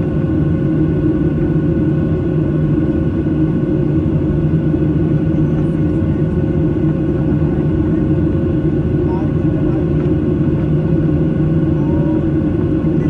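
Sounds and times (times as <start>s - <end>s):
jet engine drone: 0.0s - 13.0s.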